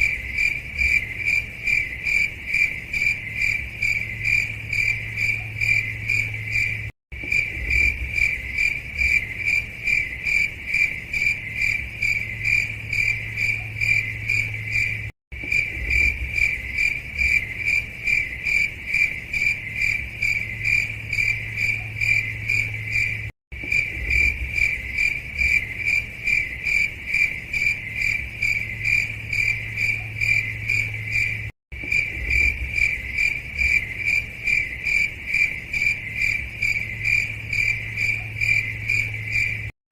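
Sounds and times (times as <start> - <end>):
cricket chirping: 0.0 - 39.7.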